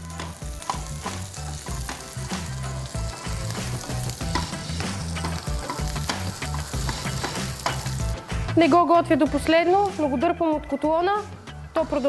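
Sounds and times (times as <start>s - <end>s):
sausage sizzling and popping in pan: 0.0s - 10.2s.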